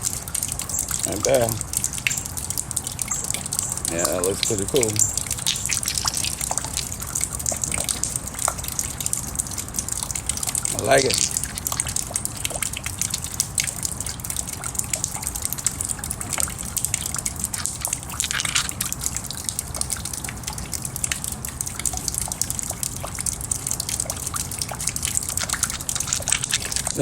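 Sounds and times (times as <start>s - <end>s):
rain dripping and trickling: 0.0s - 27.0s.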